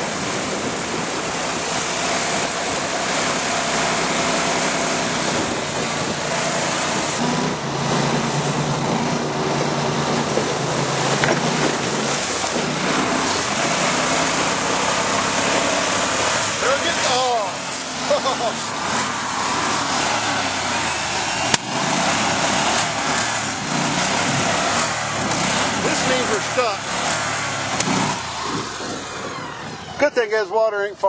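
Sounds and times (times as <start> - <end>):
heavy wind noise: 0.0 - 31.0
mud motor engine running: 0.0 - 31.0
water noise: 0.0 - 31.0.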